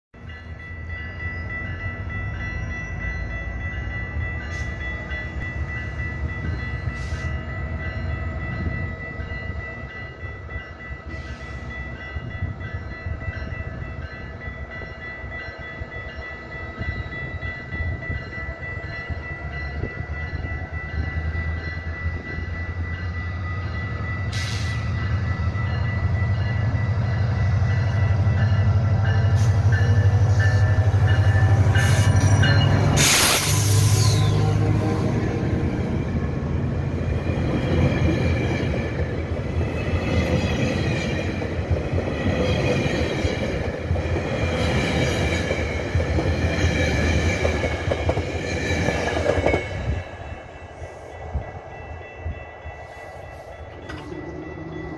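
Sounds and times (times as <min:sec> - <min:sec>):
level-crossing warning bell: 0:00.2 - 0:54.9
train low rumble: 0:00.2 - 0:54.9.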